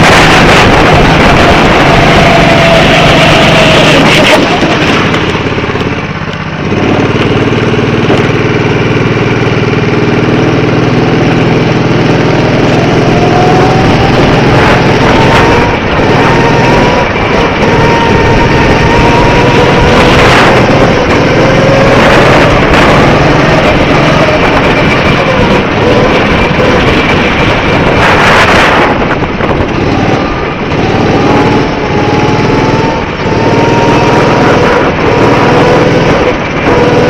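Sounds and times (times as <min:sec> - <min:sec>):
constant rushing noise: 0:00.0 - 0:37.0
go-kart engine: 0:00.0 - 0:37.0.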